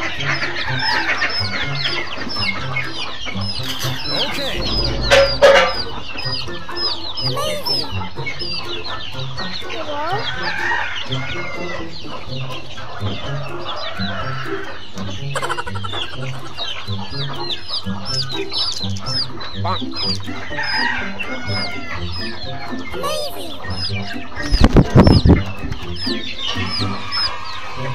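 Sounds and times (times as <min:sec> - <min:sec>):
background music with low beat: 0:00.0 - 0:23.0, 0:23.6 - 0:27.9
chicks peeping: 0:00.0 - 0:27.9.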